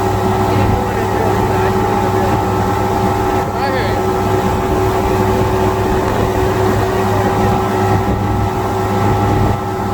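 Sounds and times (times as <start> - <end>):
outboard engine running: 0.0 - 9.9.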